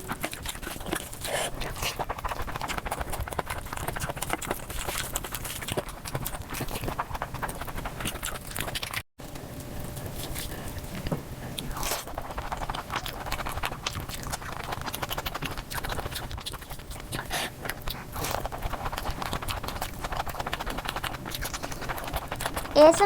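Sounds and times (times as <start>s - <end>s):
sped-up eating sounds: 0.0s - 9.0s, 9.8s - 23.0s.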